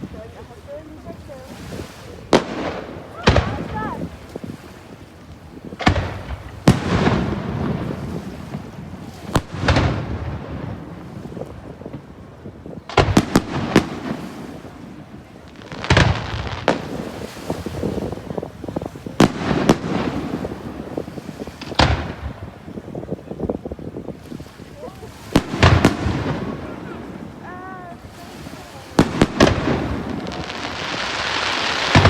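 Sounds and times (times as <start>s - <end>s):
fireworks bangs with rumble: 2.2s - 24.2s, 25.2s - 27.4s, 28.0s - 32.0s.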